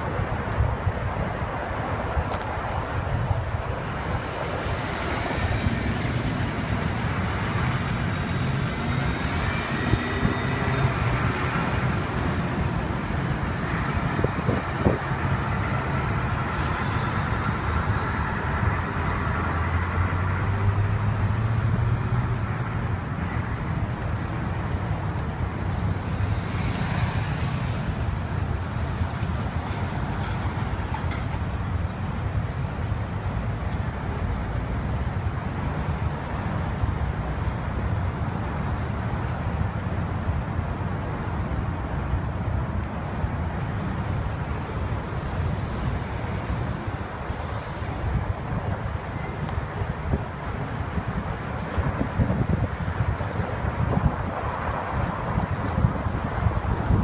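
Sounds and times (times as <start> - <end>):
bus engine rumble: 0.0 - 57.0
passing cars and trucks: 0.0 - 57.0.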